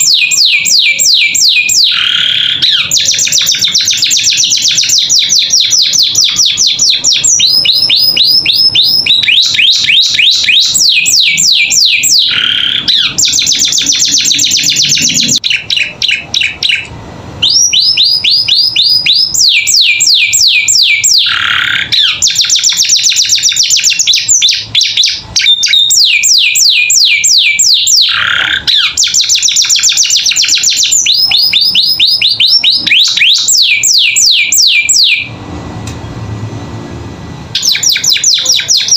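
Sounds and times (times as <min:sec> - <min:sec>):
canary singing fast trills: 0:00.0 - 0:35.3, 0:37.6 - 0:38.9.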